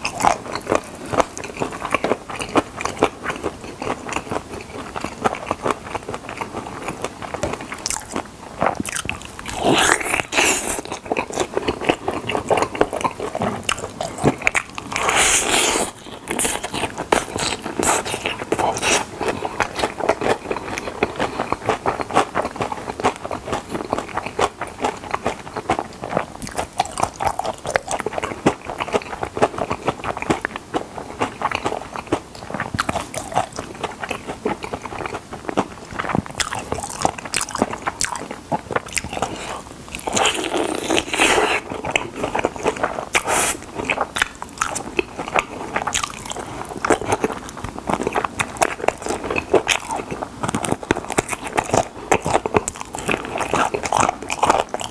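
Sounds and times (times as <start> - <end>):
crunching chicken: 0.0 - 54.9.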